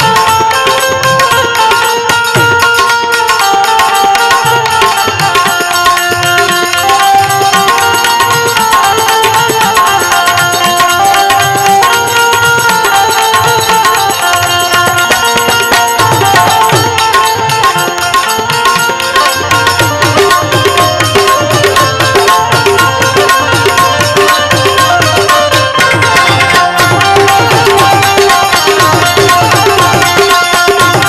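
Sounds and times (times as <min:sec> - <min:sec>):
harmonium melody: 0:00.0 - 0:31.0
tabla rhythm: 0:00.0 - 0:31.0.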